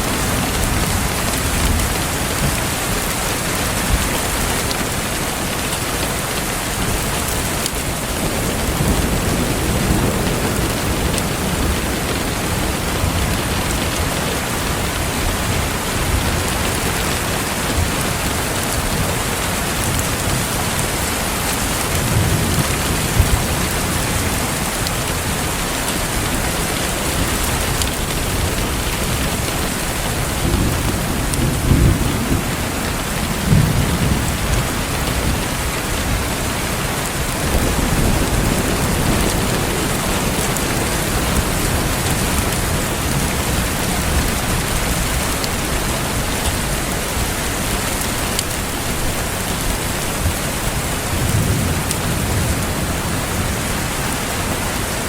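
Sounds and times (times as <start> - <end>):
steady rain falling: 0.0 - 55.0
thunder rumbling: 6.2 - 55.0.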